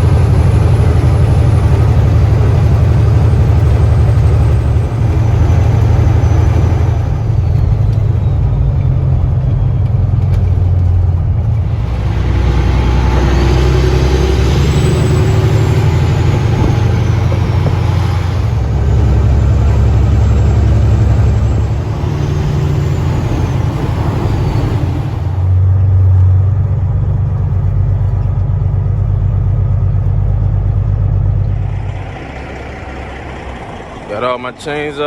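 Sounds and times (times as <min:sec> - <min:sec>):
higher-pitched engine noise: 0:00.0 - 0:25.6, 0:29.6 - 0:35.0
diesel engine rumbling: 0:00.0 - 0:35.0.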